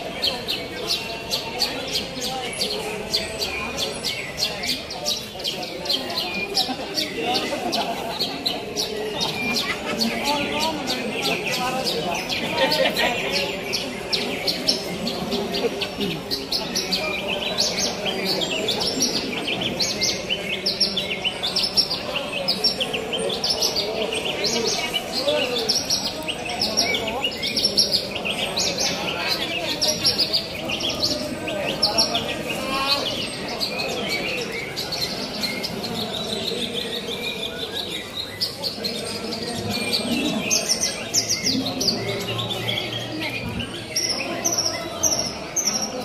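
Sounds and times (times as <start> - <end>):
birds chirping and trilling: 0.0 - 46.0
murmur of crowd voices: 0.0 - 46.0.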